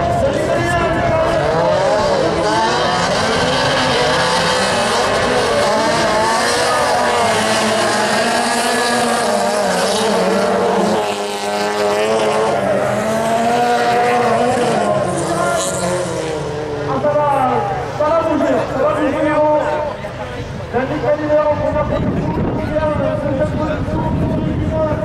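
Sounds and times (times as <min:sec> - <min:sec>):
racing car engines revving: 0:00.0 - 0:25.0.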